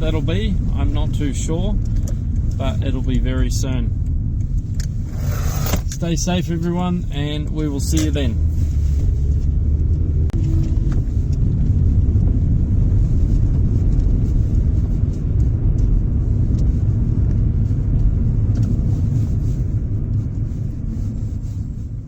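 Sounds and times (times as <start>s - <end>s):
steady low rumbling: 0.0s - 22.0s.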